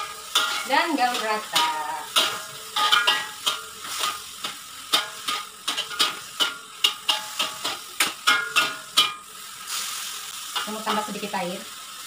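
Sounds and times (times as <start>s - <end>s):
frying sizzle: 0.0s - 12.0s.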